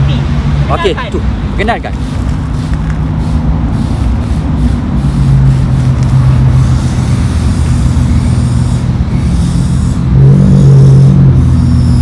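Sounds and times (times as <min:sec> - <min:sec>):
car exhaust rumble: 0:02.0 - 0:12.0.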